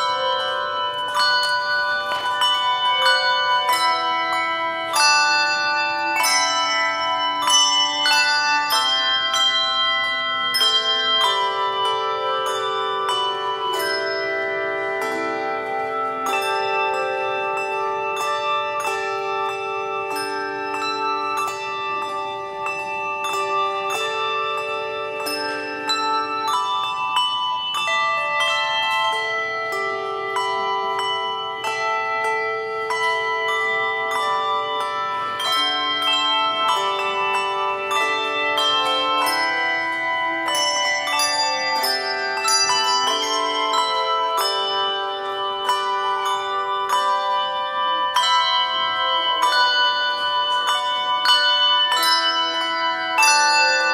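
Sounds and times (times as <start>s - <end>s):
handbell choir playing: 0.0s - 53.9s.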